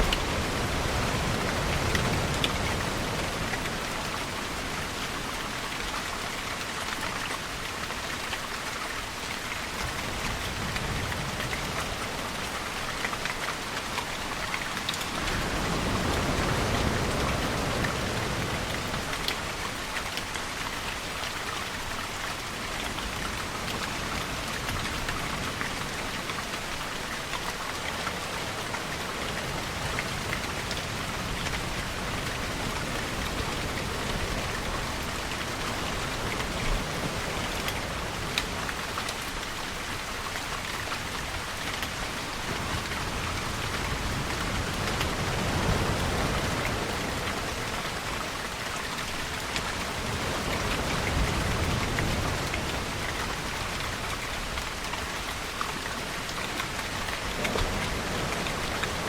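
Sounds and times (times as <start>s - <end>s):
rain drips on surfaces: 0.0s - 59.0s
steady rain falling: 0.0s - 59.0s.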